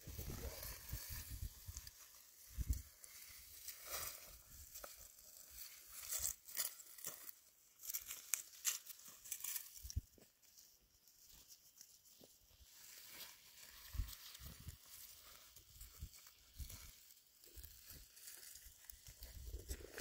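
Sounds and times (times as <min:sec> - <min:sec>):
dry rustling and crackling: 0:00.0 - 0:20.0.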